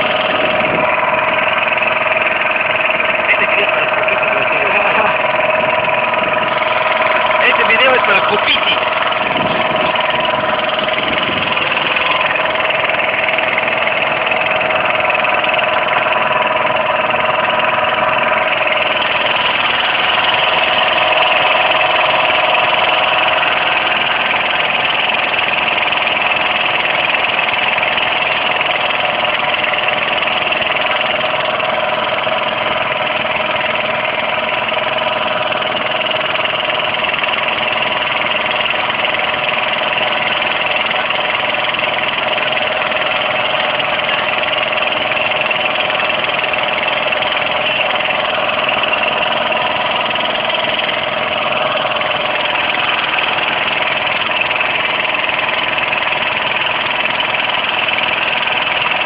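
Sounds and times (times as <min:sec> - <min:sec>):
motorboat engine drone: 0:00.0 - 0:59.0.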